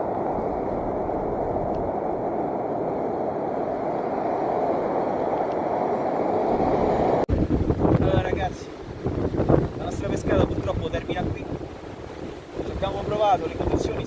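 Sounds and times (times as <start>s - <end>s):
surf at the shoreline: 0.0s - 14.0s
wind: 0.0s - 14.0s.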